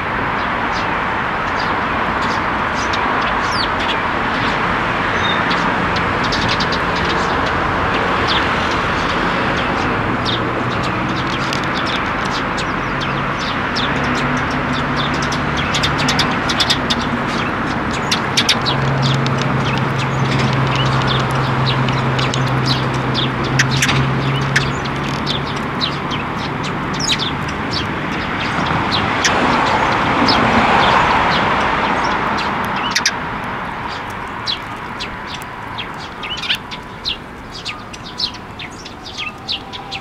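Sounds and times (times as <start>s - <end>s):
sparrows chirping: 0.0s - 40.0s.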